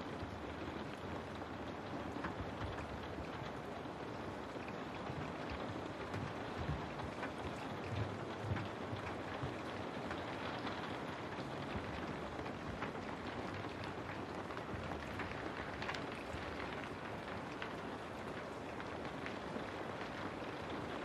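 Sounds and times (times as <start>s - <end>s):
raindrop ticks: 0.0s - 21.0s
steady rain: 0.0s - 21.0s.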